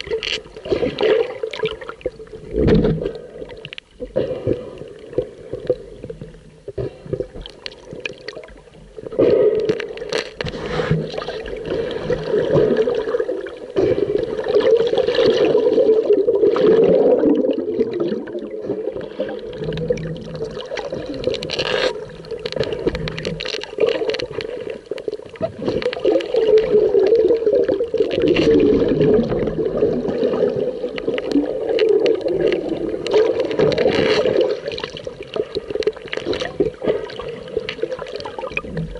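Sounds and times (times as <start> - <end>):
muffled underwater rumble: 0.0 - 38.9
underwater gurgling: 0.0 - 38.9.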